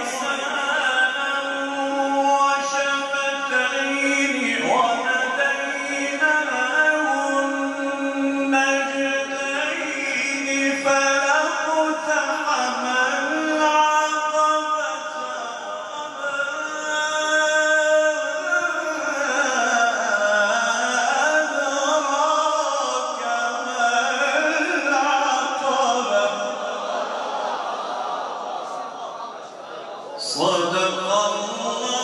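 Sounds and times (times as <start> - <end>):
man chanting melodically: 0.0 - 26.9, 30.1 - 32.0.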